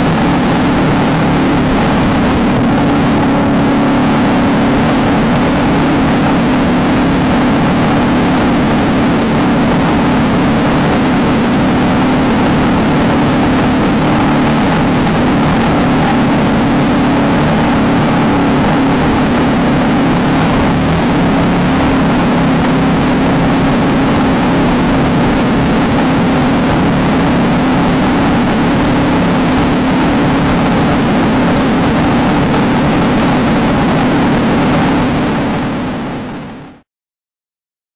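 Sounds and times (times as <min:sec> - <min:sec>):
rough-terrain rumble: 0:00.0 - 0:36.1
race car engine at high revs: 0:00.0 - 0:36.4
wind noise: 0:00.0 - 0:36.7.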